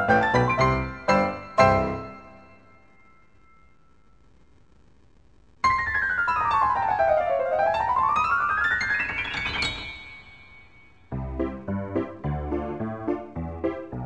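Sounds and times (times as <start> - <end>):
piano music: 0.0 - 3.2, 5.6 - 14.0.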